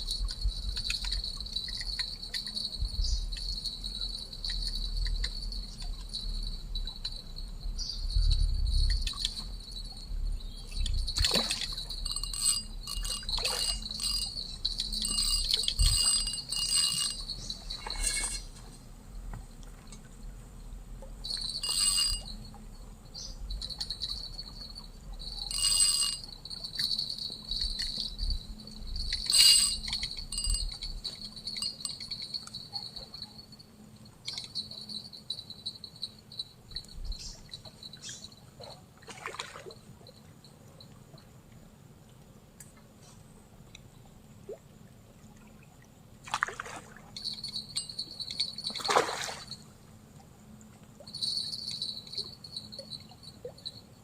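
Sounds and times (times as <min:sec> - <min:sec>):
insects chirping: 0:00.0 - 0:41.4, 0:46.0 - 0:54.0.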